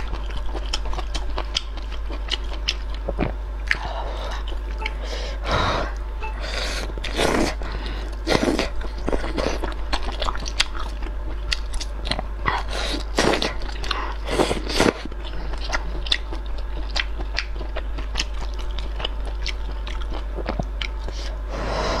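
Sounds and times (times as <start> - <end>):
chewing with mouth clicks: 0.0 - 5.0, 6.8 - 21.4.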